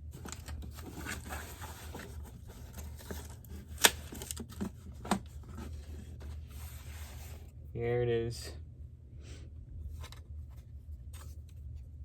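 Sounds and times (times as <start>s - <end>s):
cardboard rustling and scraping: 0.0s - 7.6s, 9.9s - 12.0s.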